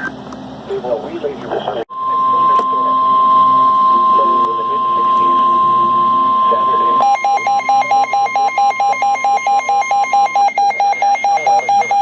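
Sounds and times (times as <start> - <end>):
radio alarm beeping rapidly: 1.9 - 12.0.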